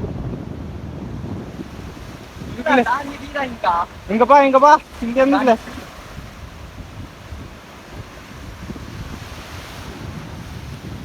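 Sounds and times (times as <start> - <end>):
wind buffeting microphone: 0.0 - 11.0
sea surf breaking: 1.4 - 11.0.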